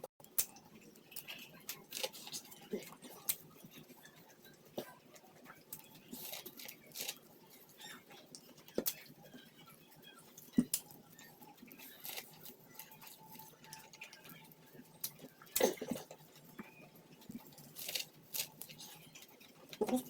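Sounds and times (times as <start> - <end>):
chewing corn on the cob: 0.2 - 20.0.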